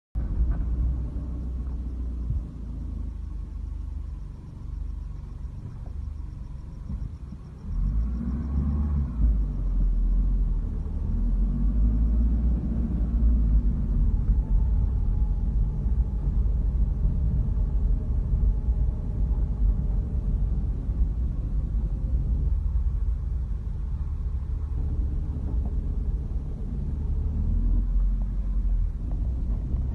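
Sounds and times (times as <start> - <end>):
car engine and road rumble: 0.2 - 29.9.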